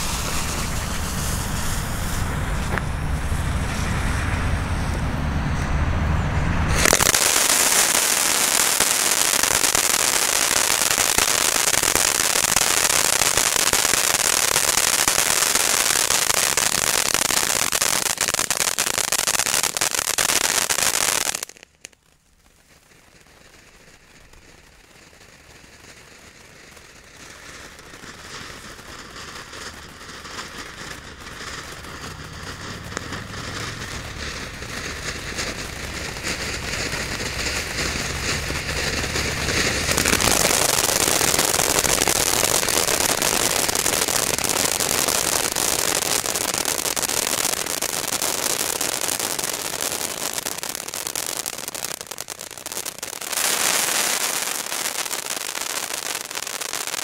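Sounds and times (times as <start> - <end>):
firework crackling: 0.0 - 57.0
fountain firework hissing sparks: 0.0 - 57.0.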